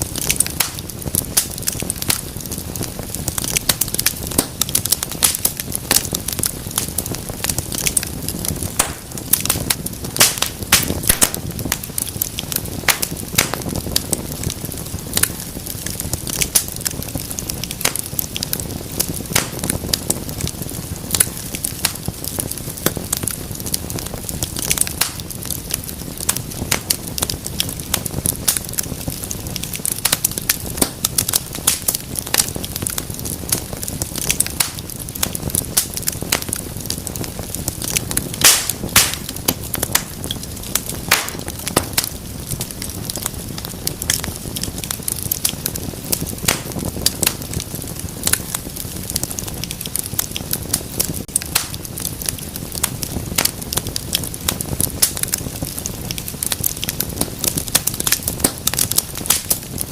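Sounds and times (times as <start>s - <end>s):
low roar of flame: 0.0s - 59.9s
wood fire crackling: 0.0s - 59.9s.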